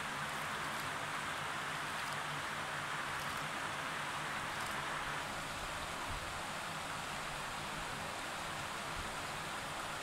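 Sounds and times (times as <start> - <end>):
river flowing: 0.0 - 10.0.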